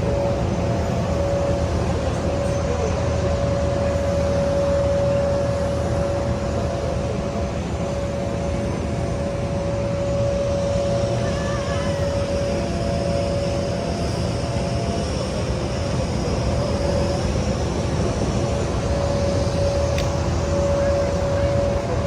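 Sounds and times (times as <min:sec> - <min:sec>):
aircraft engine running: 0:00.0 - 0:22.0.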